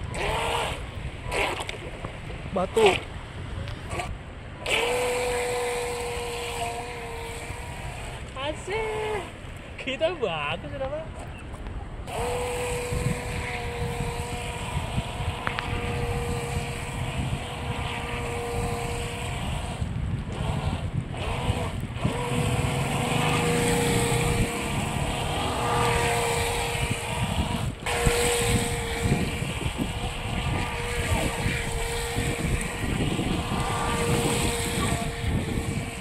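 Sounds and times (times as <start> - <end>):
electric motor whining: 0.0 - 1.8, 3.8 - 9.4, 12.1 - 36.0
wind rumbling on microphone: 0.0 - 36.0.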